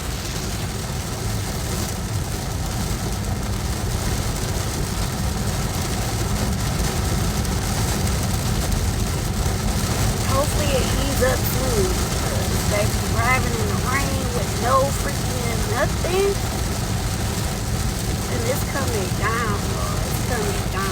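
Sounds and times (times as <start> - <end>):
car road and engine rumble: 0.0 - 20.9
heavy rain hiss: 0.0 - 20.9.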